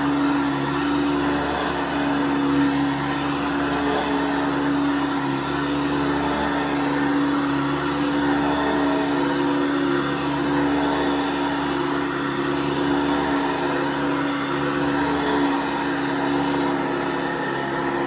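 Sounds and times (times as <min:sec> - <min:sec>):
upright vacuum running: 0:00.0 - 0:18.0.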